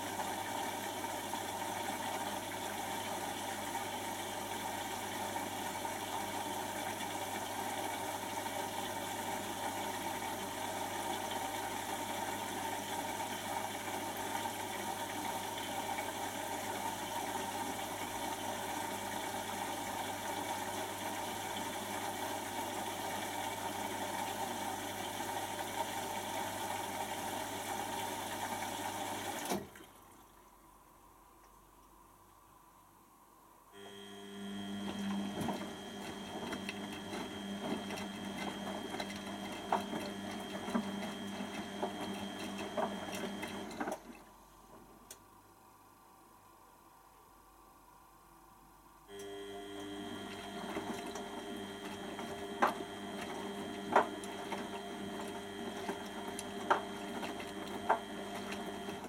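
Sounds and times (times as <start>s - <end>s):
washing machine humming: 0.0s - 31.4s, 33.8s - 45.1s, 49.1s - 59.0s.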